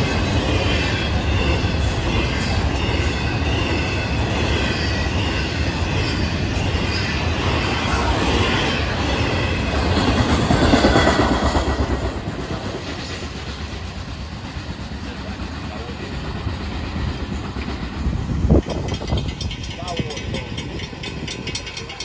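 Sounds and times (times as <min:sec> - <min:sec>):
train wheels clattering: 0:00.0 - 0:22.0.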